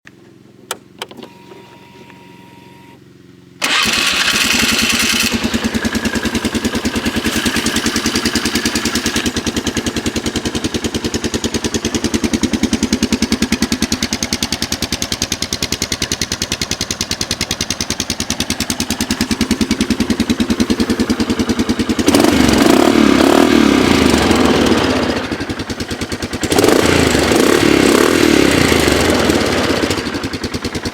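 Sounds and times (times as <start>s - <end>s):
atv engine idling and revving: 3.1s - 30.9s.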